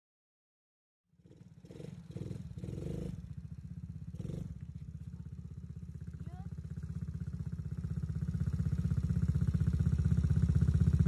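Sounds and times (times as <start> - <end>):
small gas engine revving: 1.2 - 11.0.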